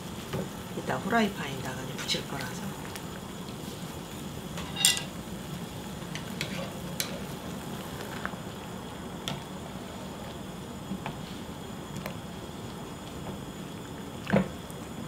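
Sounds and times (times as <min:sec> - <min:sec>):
water boiling in a pot: 0:00.0 - 0:15.0.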